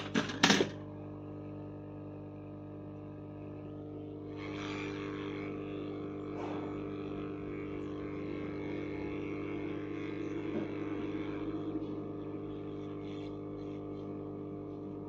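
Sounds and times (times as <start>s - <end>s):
hot-air gun fan hum: 0.0s - 15.0s.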